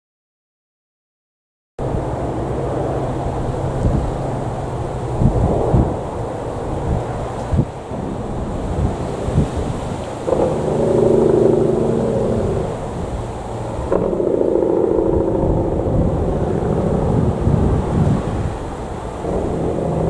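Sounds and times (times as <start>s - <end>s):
jet engines at takeoff thrust: 1.8s - 20.0s.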